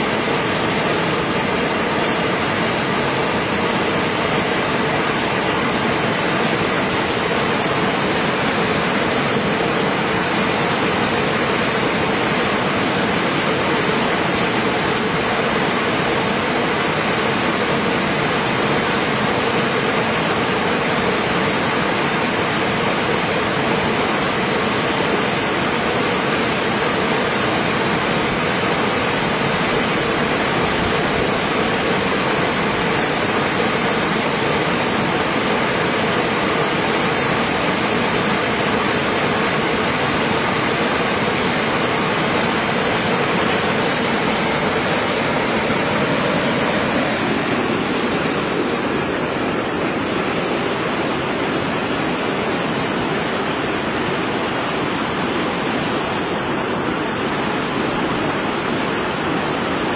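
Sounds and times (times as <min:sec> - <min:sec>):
loud rushing noise: 0:00.0 - 0:59.9.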